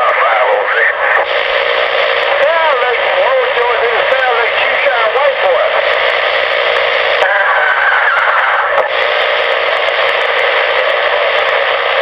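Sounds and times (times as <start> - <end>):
radio static: 0.0 - 12.0.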